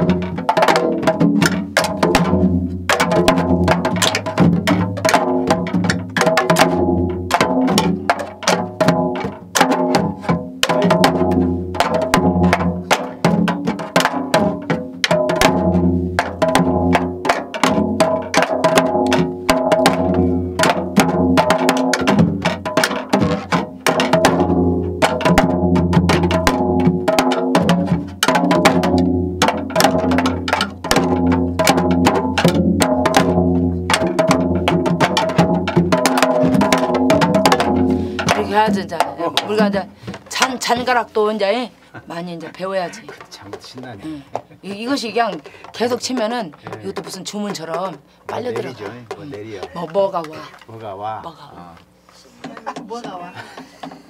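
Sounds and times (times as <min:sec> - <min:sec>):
hourglass drum playing: 0:00.0 - 0:50.3.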